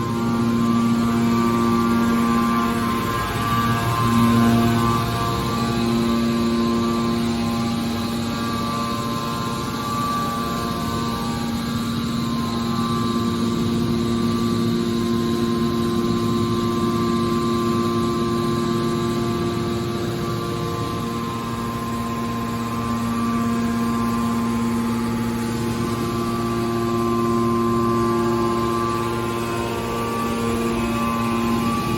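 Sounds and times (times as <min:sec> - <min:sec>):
hydraulic power unit humming: 0:00.0 - 0:31.9.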